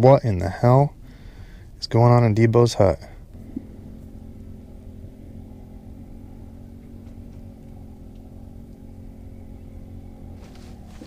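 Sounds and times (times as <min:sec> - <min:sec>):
aerator pump humming: 0:00.0 - 0:11.0.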